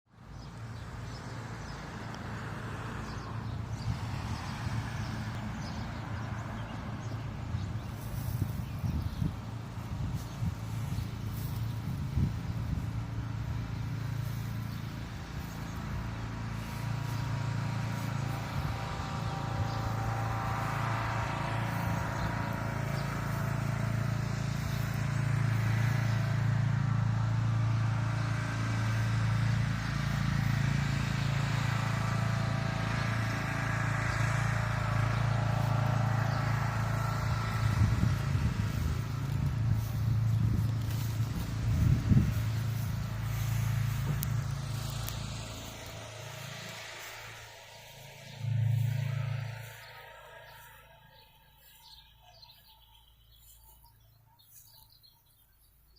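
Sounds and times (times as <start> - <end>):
low engine hum: 0.1 - 55.9
vehicles going by: 0.1 - 55.9.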